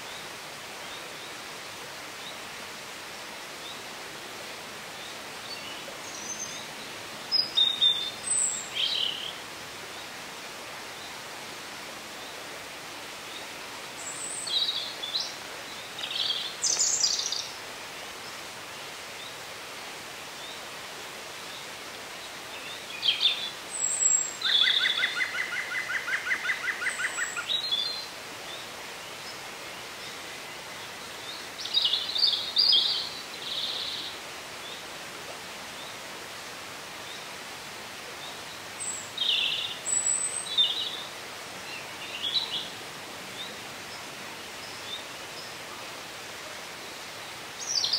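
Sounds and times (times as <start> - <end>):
songbirds chirping: 0.0 - 47.9
steady hiss: 0.0 - 47.9.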